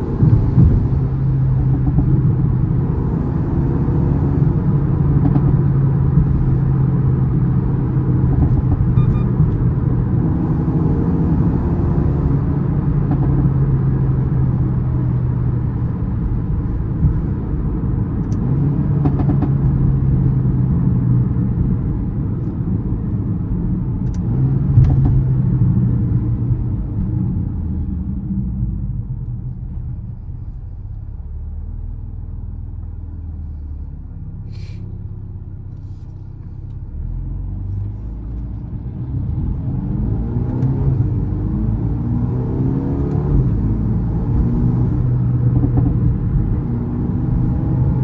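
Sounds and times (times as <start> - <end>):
car engine and exhaust droning: 0.0 - 48.0
low road rumble: 0.0 - 48.0.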